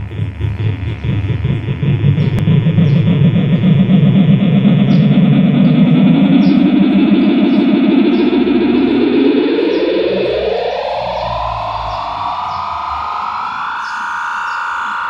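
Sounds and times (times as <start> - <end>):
distorted guitar amplifier drone: 0.0 - 15.0.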